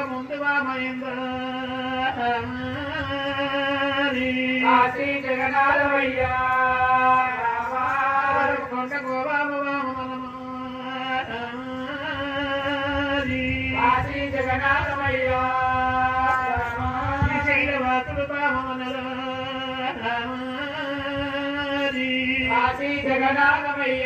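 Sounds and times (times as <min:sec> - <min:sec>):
man singing long notes: 0:00.0 - 0:24.0
person chanting a folk ballad: 0:00.0 - 0:24.0.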